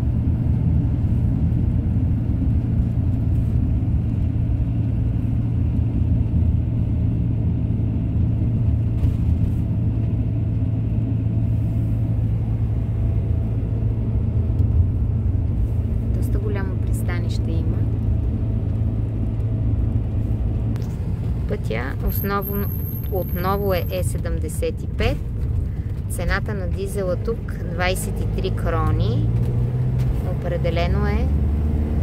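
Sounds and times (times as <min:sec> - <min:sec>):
van engine and road rumble: 0:00.0 - 0:32.0.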